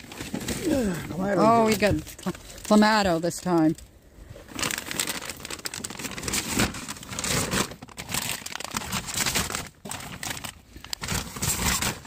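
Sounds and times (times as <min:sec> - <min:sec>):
paper bag rustling: 0:00.0 - 0:03.8, 0:04.4 - 0:12.0.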